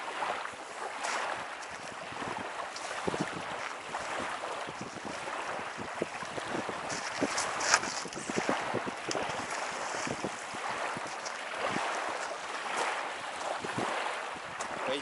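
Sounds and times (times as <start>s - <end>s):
gusty wind on microphone: 0.0s - 15.0s
small waves lapping at shore: 0.0s - 15.0s.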